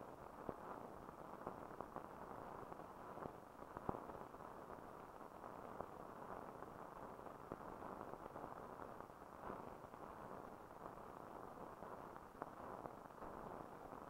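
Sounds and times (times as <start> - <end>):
film soundtrack hiss and crackle: 0.0 - 14.0.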